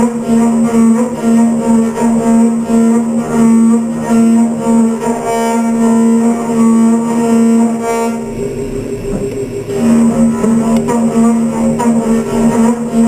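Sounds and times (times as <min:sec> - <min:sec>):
milling machine cutting whine: 0:00.0 - 0:13.0.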